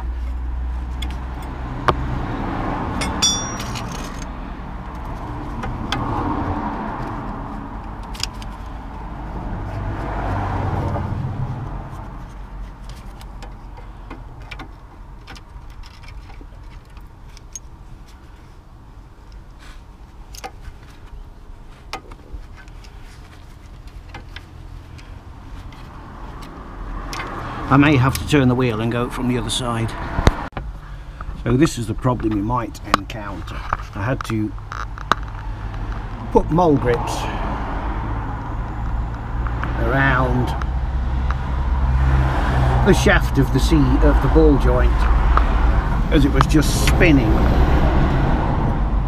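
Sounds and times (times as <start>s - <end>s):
road traffic passing: 0.0s - 49.0s.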